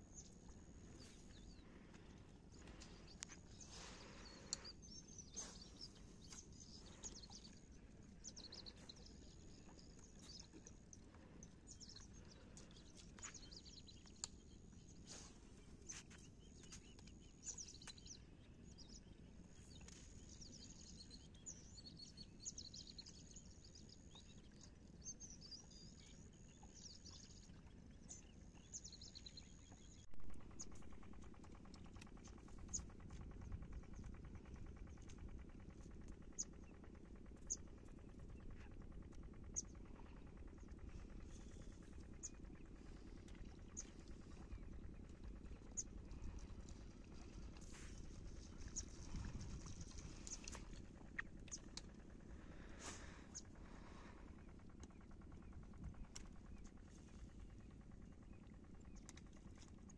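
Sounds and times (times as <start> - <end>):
low steady background noise: 0.0 - 59.9.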